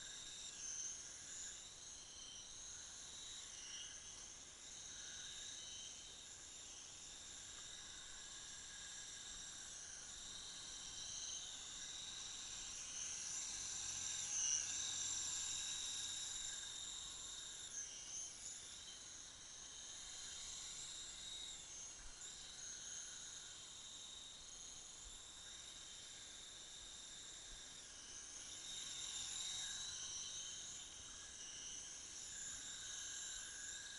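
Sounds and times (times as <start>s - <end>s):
remote-control helicopter whine: 0.0s - 33.9s.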